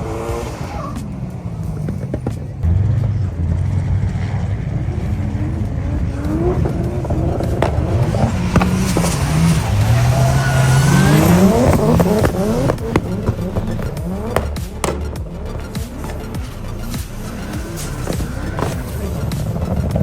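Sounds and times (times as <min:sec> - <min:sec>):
car engine revving: 0:00.0 - 0:20.0
sharp cracks: 0:00.0 - 0:20.0.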